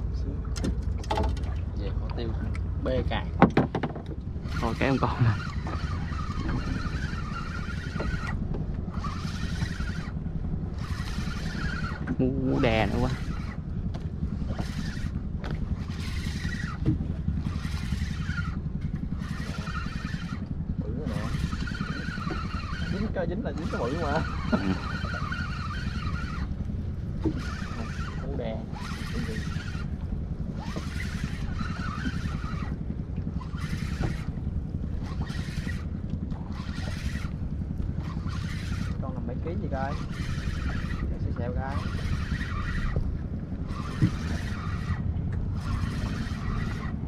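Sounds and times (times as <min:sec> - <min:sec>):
boat engine rumbling: 0:00.0 - 0:47.0
water splashing against hull: 0:00.0 - 0:47.0
wind buffeting microphone: 0:00.0 - 0:47.0.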